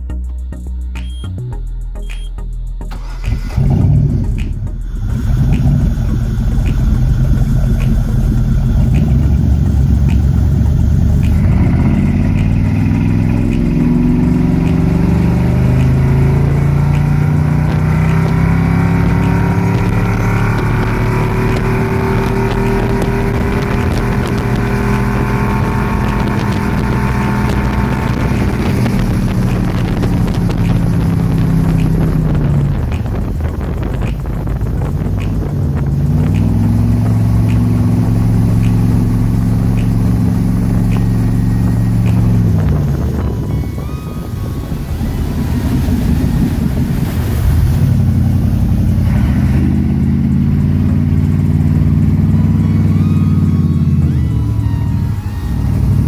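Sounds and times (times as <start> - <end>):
boat engine rumbling and droning: 0.0 - 56.0.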